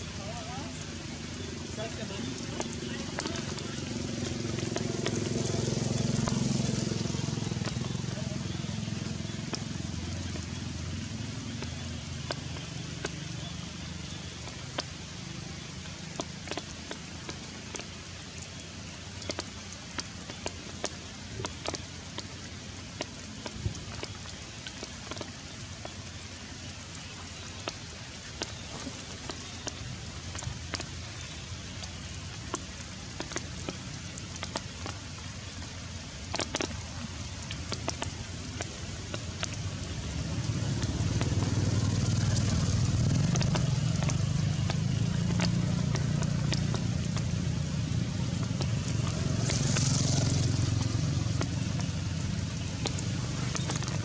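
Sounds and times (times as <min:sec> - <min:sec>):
low engine rumble: 0:00.0 - 0:24.5, 0:25.2 - 0:54.0
heavy rain falling: 0:00.0 - 0:54.0
raindrops striking surfaces: 0:00.0 - 0:54.0.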